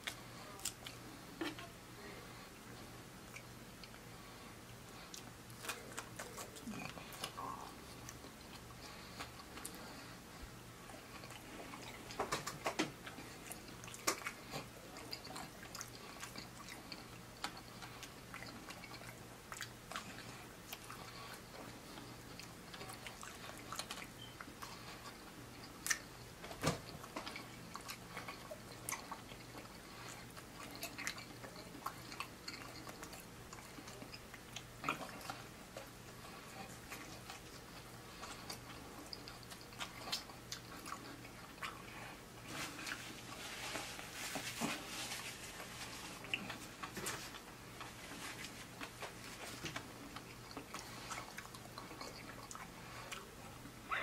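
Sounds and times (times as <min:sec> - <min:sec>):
chewing fried food: 0:00.0 - 0:54.0
faint low hum: 0:00.0 - 0:54.0.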